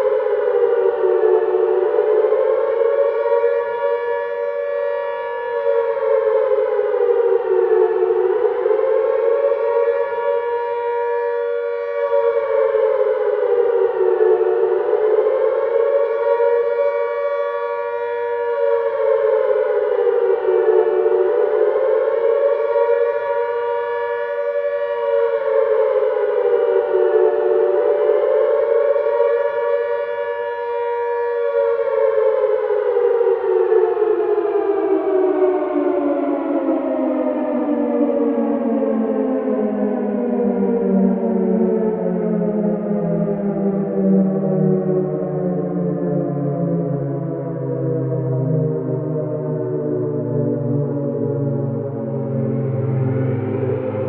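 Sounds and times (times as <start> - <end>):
air raid siren wailing: 0.0 - 54.0.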